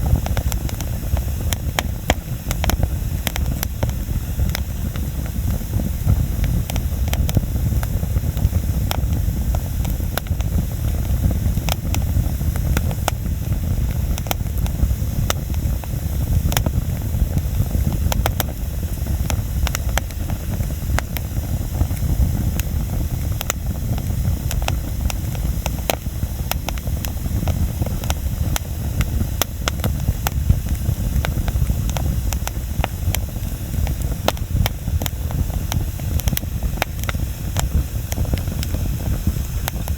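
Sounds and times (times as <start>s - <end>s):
campfire crackling and popping: 0.0s - 39.9s
low steady rumble: 0.0s - 39.9s.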